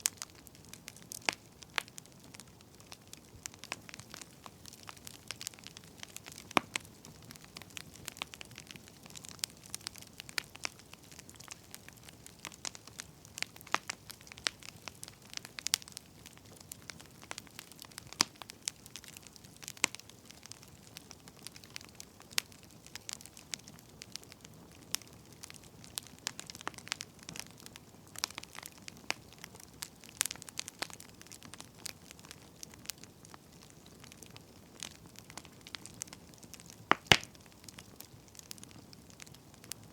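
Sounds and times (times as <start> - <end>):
firewood popping and snapping: 0.1 - 39.9.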